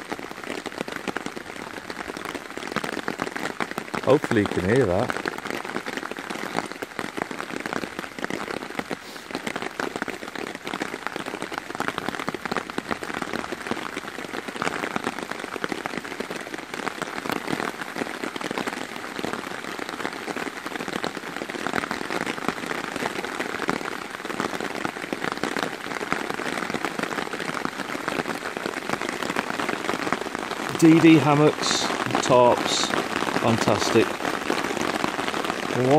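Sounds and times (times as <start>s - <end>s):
heavy rain on a tarp: 0.0s - 35.9s.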